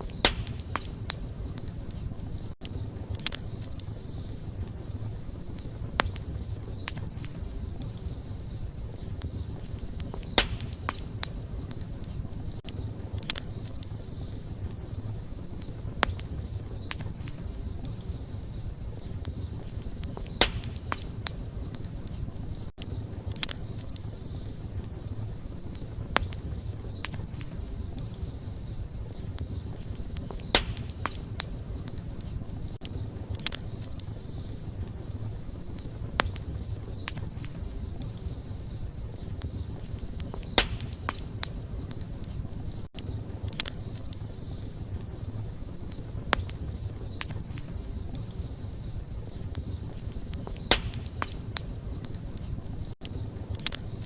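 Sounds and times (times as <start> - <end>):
low rumble of flames: 0.0 - 54.0
sharp pops of fire: 0.0 - 54.0
wood fire crackling: 0.0 - 54.0.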